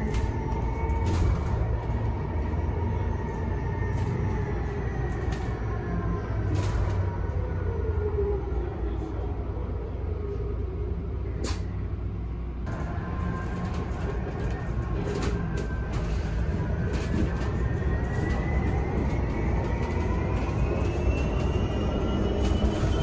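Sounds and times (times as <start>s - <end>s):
bus cabin low rumble: 0.0s - 23.0s.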